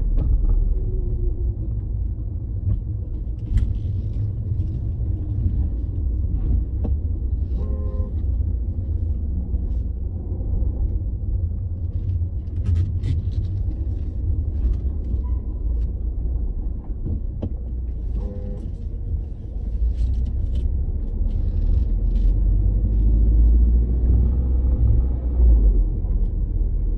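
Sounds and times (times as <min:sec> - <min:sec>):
car engine rumble: 0:00.0 - 0:26.9.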